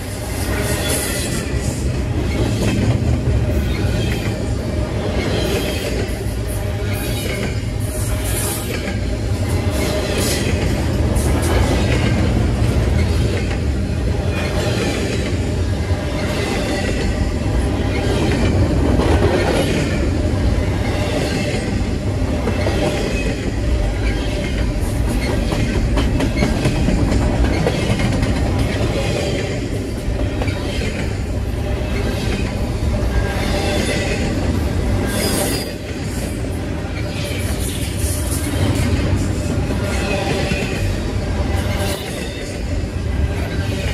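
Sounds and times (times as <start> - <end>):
train wheels clattering: 0.0 - 42.8
freight train rumbling past: 0.0 - 43.9.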